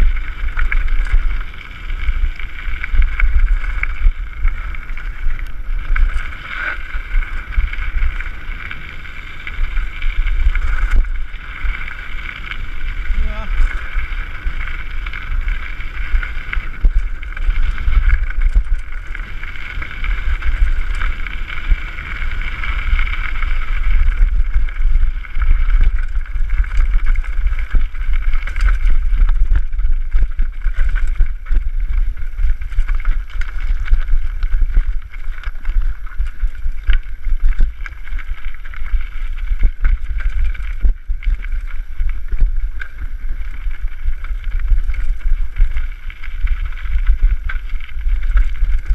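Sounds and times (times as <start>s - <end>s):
bike clattering over stones: 0.0s - 48.9s
wind buffeting microphone: 0.0s - 48.9s.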